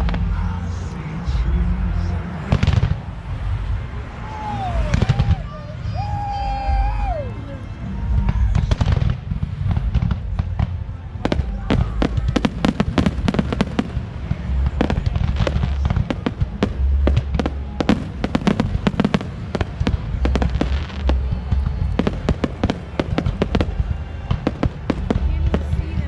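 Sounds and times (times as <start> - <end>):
deep fireworks booms: 0.0 - 5.5, 8.0 - 26.0
fireworks bangs and crackles: 0.0 - 26.0.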